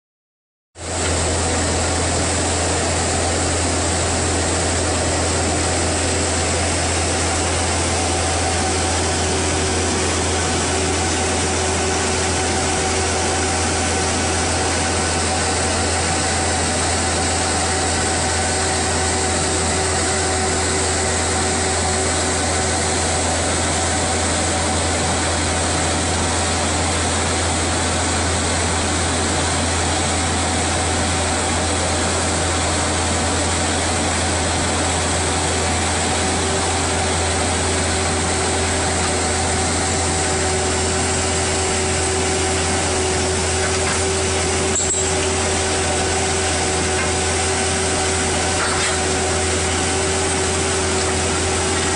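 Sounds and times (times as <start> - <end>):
drilling rig engine humming: 0.8 - 51.9.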